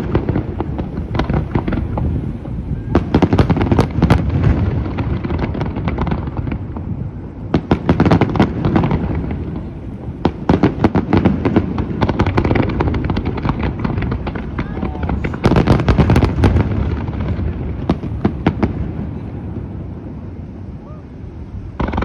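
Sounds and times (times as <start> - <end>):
fireworks bangs and crackles: 0.0 - 22.0
low fireworks rumble: 0.0 - 22.0.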